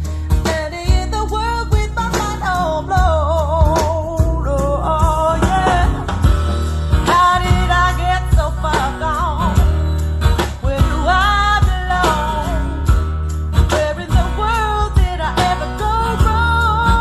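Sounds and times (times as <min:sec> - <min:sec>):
music through loudspeakers: 0:00.0 - 0:17.0.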